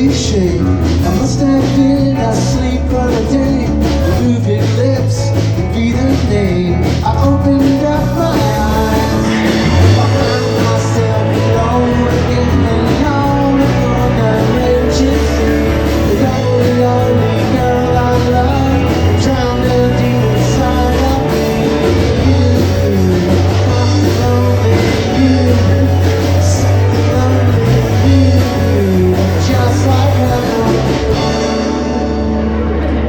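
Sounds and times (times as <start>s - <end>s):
live rock band playing: 0.0s - 33.0s
person singing: 0.0s - 33.0s.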